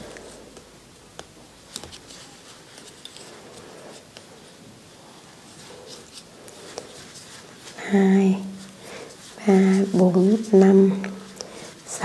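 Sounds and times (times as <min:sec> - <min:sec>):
yarn and crochet hook rustling: 0:00.0 - 0:12.0.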